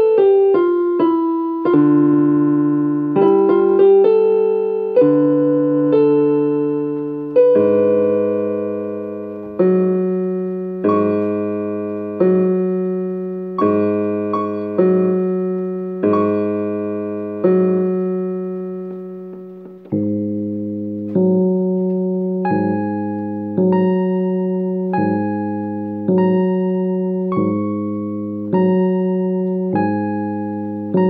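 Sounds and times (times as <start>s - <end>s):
electronic keyboard piano chords: 0.0s - 31.0s.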